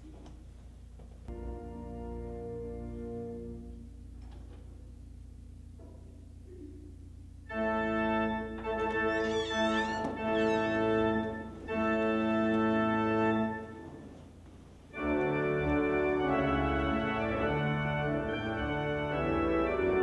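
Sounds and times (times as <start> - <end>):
organ playing slow chords: 1.2 - 20.0.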